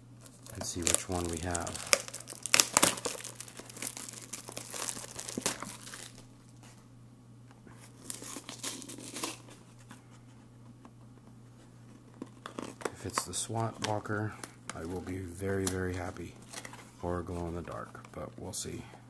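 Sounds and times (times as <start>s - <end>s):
packaging crinkling and tearing: 0.2s - 6.8s, 7.8s - 10.0s, 12.0s - 18.6s.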